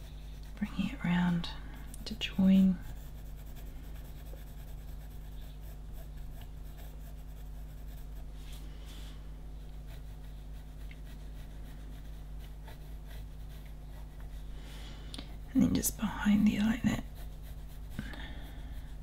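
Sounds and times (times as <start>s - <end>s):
pencil scratching on paper: 0.0s - 8.6s, 9.8s - 14.5s, 15.3s - 19.0s
steady low hum: 0.0s - 19.0s.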